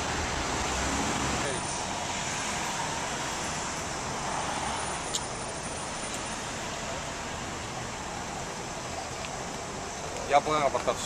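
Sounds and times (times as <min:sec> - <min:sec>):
passing cars: 0:00.0 - 0:11.0.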